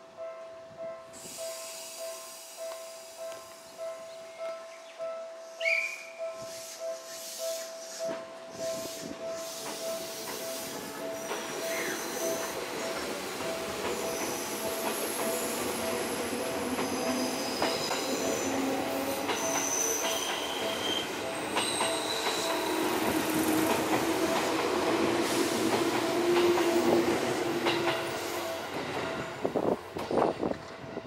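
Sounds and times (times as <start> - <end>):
electric train departing: 0.7 - 31.0.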